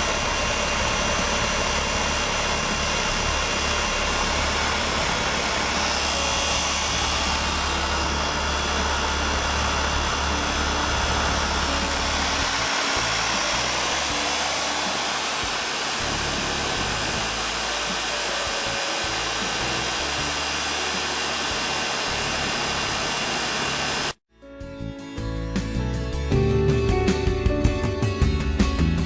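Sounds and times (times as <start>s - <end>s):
music playing: 0.0s - 23.2s, 24.3s - 29.0s
machine rushing noise: 0.0s - 24.2s.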